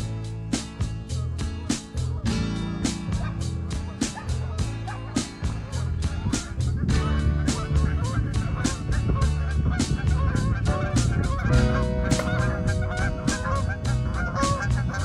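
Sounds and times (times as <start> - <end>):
background music with steady beat: 0.0 - 15.0
geese honking: 1.1 - 15.0.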